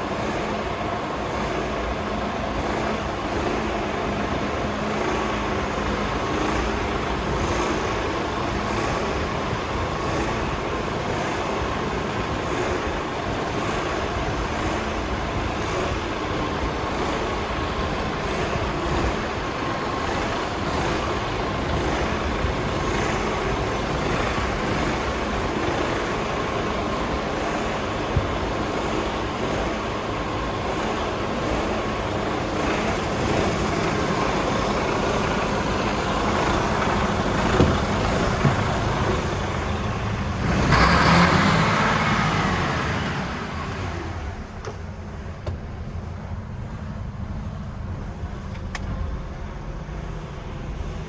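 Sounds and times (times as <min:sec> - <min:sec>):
diesel truck engine idling: 0:00.0 - 0:51.0.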